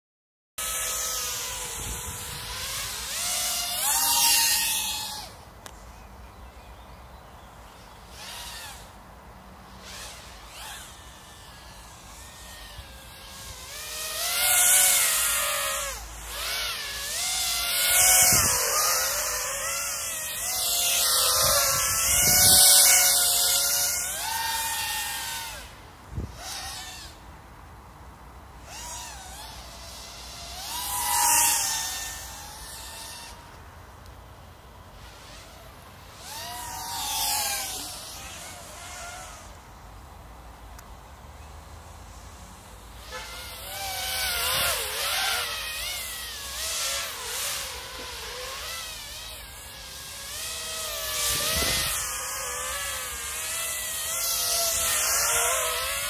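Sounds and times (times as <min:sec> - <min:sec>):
quadcopter motors whining: 0:00.6 - 0:27.7, 0:28.5 - 0:40.2, 0:40.8 - 0:56.0.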